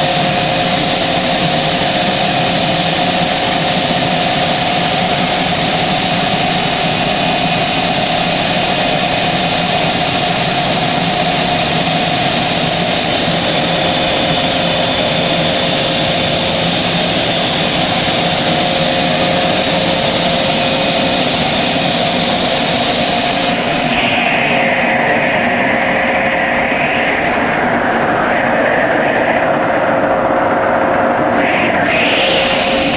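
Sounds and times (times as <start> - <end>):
car wash machinery running: 0.0 - 27.1.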